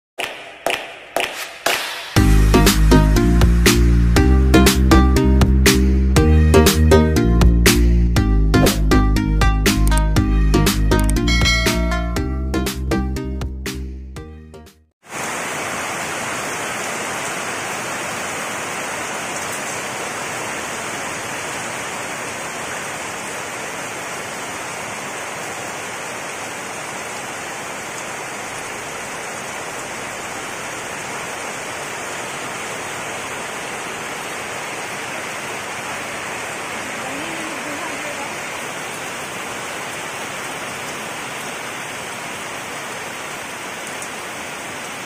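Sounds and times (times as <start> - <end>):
heavy rain on concrete: 0.7 - 6.8, 15.0 - 45.0.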